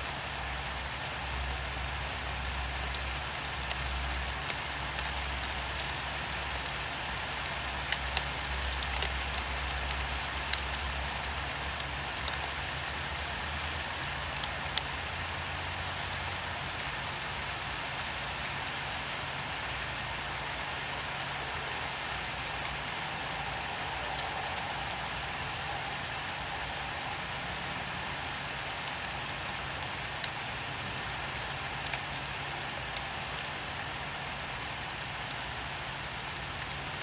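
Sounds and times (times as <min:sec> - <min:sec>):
rain hissing: 0:00.0 - 0:37.0.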